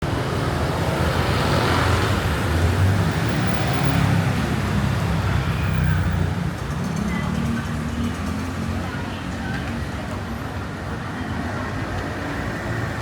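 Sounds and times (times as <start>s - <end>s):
street hubbub: 0.0s - 13.0s
vehicle engines and tyres rumbling: 0.0s - 13.0s.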